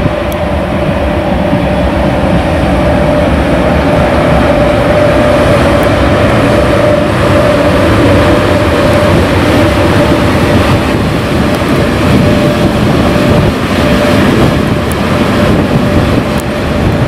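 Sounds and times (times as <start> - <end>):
locomotive wheels rumbling on rails: 0.0 - 17.0
locomotive whine: 0.0 - 17.0.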